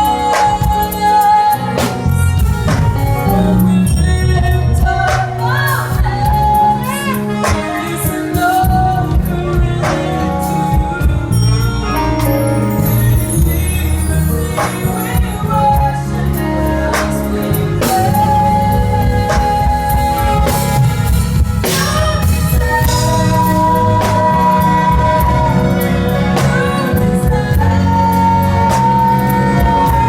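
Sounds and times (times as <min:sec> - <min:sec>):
drums: 0:00.0 - 0:30.0
gospel band playing: 0:00.0 - 0:30.0
heavy bass line: 0:00.0 - 0:30.0
person singing long notes: 0:00.0 - 0:30.0.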